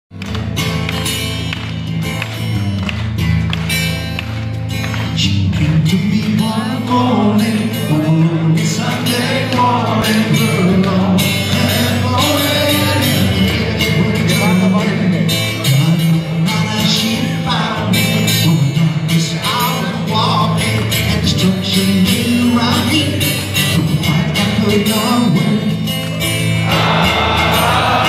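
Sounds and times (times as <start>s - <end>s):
rock band playing: 0.1s - 19.5s, 23.4s - 28.0s
strummed acoustic guitar: 0.1s - 28.0s
man singing: 5.1s - 28.0s.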